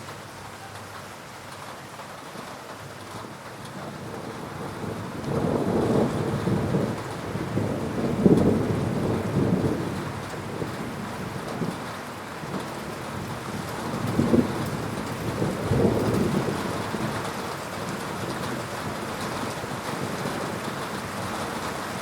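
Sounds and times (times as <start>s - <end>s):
heavy rain: 0.0s - 22.0s
thunder rumbling: 3.1s - 22.0s.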